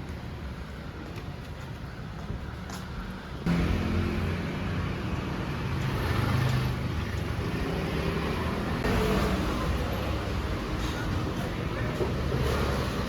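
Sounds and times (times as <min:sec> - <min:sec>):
moving vehicle rumble: 0:00.0 - 0:13.0.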